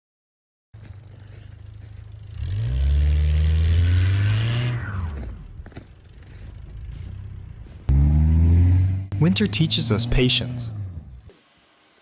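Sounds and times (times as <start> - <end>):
vehicle engine revving: 0.8 - 11.6.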